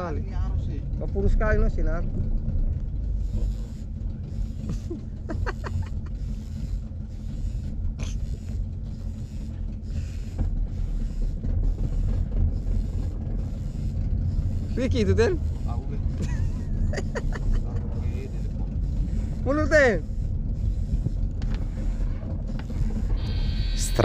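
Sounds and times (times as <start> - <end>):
low rumble: 0.0 - 24.0
fishing reel whirring creak: 3.1 - 24.0.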